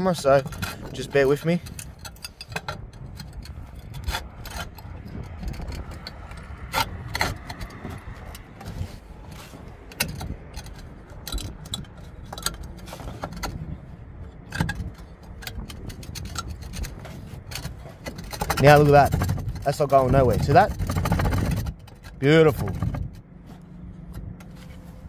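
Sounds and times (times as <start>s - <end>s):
metal clip clicking on roof tiles: 0.0s - 23.3s
steady low rumble: 0.0s - 25.0s.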